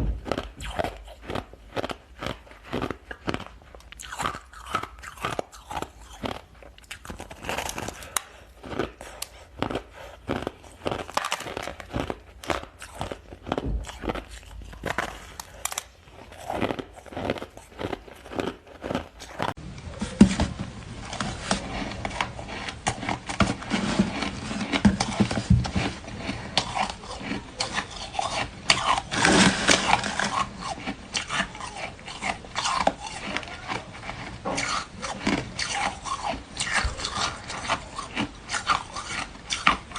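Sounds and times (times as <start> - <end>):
ice being chewed: 0.1 - 39.9.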